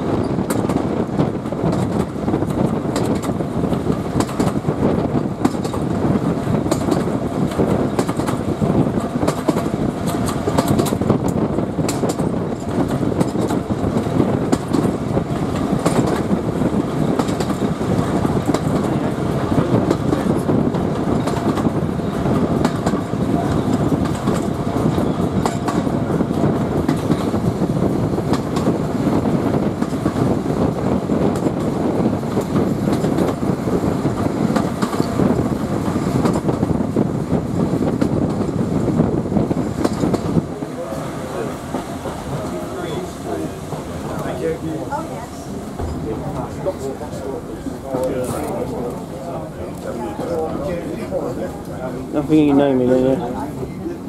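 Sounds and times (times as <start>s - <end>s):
rail joint clicks: 0.0s - 52.7s
train wheels rumbling on rail: 0.0s - 54.0s.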